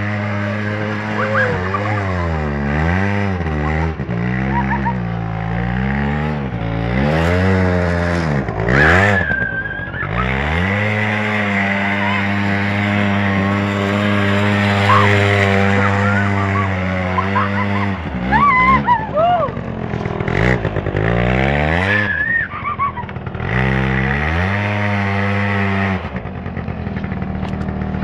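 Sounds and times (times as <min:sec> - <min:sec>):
small engine revving: 0:00.0 - 0:28.0.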